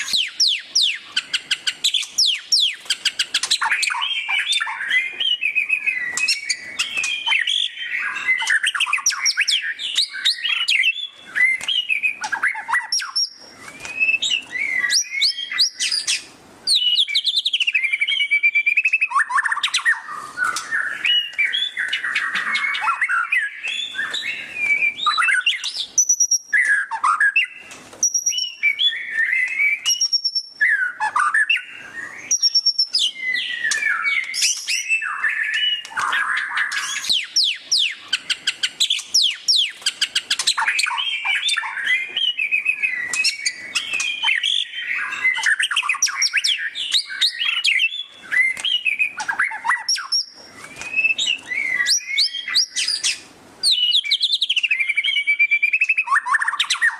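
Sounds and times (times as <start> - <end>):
bird singing trills and whistles: 0.0 - 56.9.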